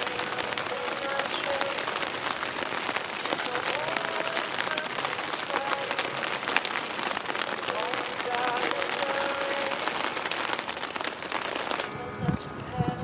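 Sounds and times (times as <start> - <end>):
rain falling: 0.0 - 13.0
raindrops ticking on surface: 0.0 - 13.0.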